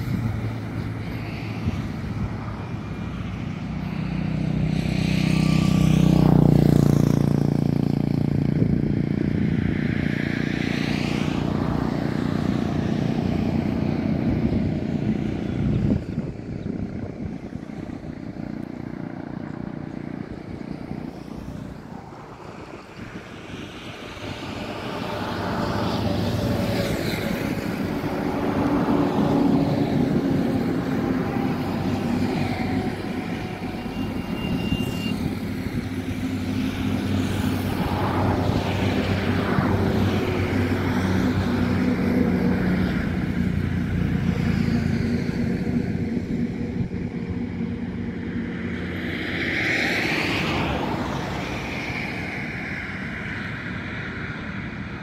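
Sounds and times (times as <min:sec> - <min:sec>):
vehicle rumbling: 0:00.0 - 0:55.0.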